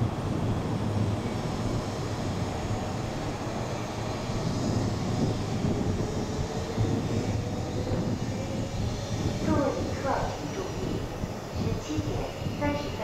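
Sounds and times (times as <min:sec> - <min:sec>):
train pulling away rumbling: 0:00.0 - 0:13.0
train whine: 0:00.0 - 0:13.0.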